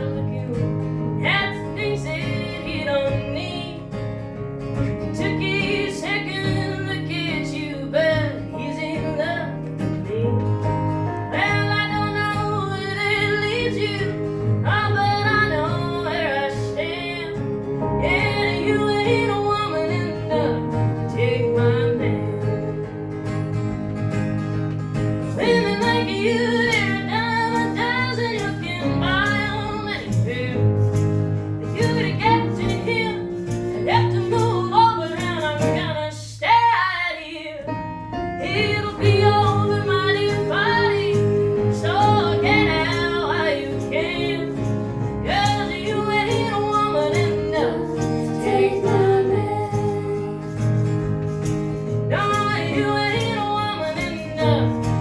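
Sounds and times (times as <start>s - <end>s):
women singing: 0.0s - 4.0s, 4.8s - 23.6s, 25.2s - 37.8s, 38.4s - 51.2s, 51.8s - 55.0s
acoustic guitar: 0.0s - 55.0s.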